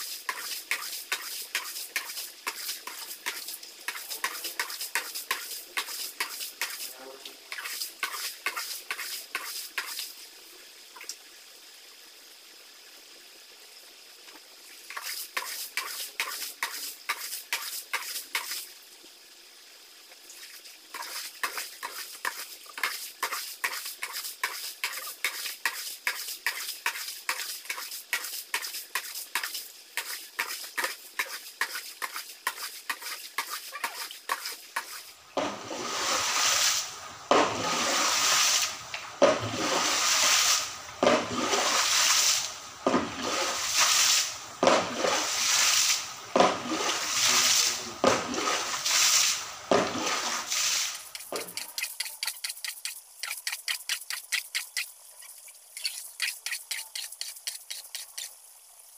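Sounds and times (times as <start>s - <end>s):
dustpan scooping water splashing: 0.0s - 10.2s, 14.8s - 18.7s, 20.3s - 58.4s
broom sweeping water: 0.0s - 10.3s, 14.7s - 18.8s, 20.2s - 58.4s.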